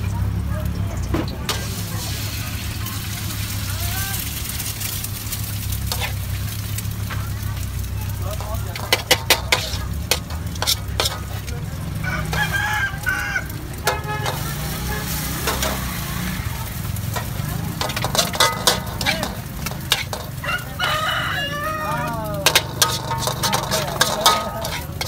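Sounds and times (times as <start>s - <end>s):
frying sizzle: 0.0s - 25.0s
metal spatula scraping wok: 4.8s - 25.0s.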